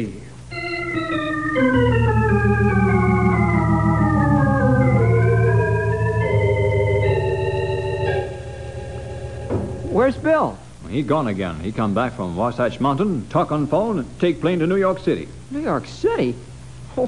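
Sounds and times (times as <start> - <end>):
organ chords: 0.0 - 14.8.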